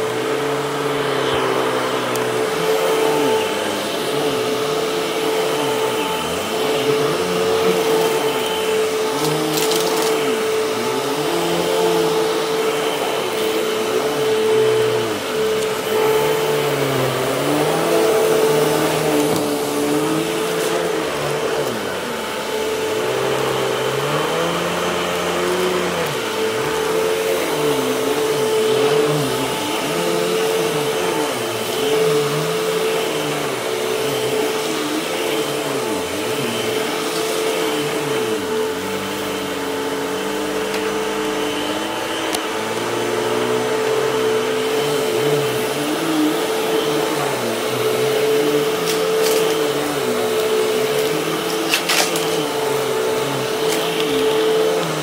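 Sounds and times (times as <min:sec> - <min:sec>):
vacuum cleaner whining on a rug: 0:00.0 - 0:55.0.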